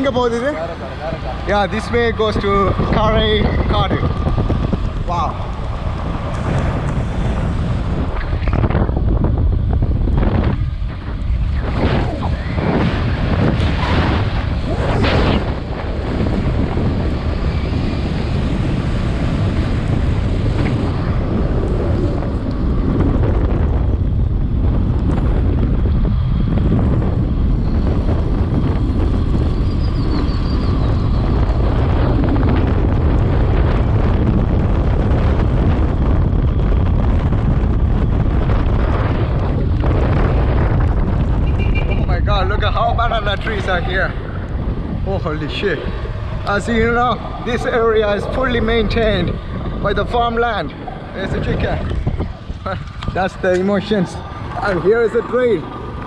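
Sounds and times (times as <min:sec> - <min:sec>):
motorcycle running: 0:00.0 - 0:56.0
wind buffeting microphone: 0:00.0 - 0:56.0.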